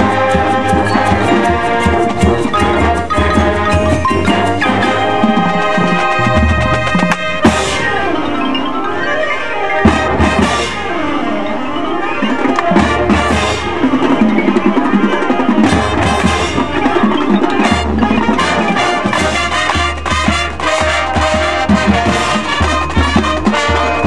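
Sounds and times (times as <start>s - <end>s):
drums: 0.0s - 24.0s
mallet percussion: 0.0s - 24.0s
marching band playing: 0.0s - 24.0s.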